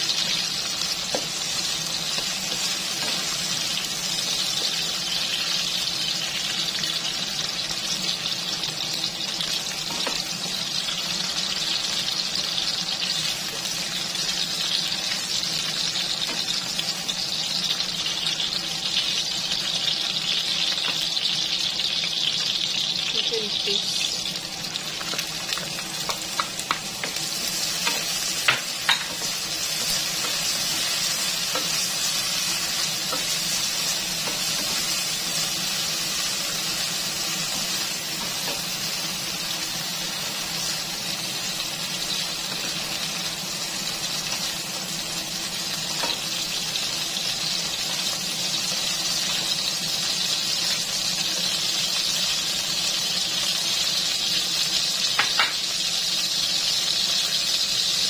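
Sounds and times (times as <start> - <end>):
peas sizzling in hot oil: 0.0 - 58.0.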